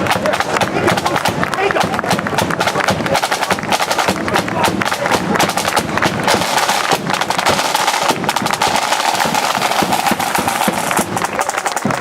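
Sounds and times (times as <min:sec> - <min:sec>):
bass drum beats: 0:00.0 - 0:12.0
snare drum rolls: 0:00.0 - 0:12.0.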